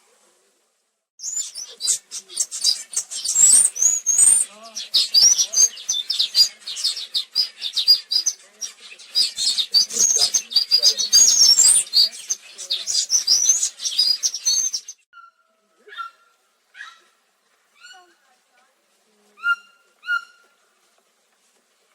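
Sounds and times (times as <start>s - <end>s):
lower bird calls: 1.2s - 18.2s, 19.3s - 20.8s
small birds chirping: 1.2s - 21.9s.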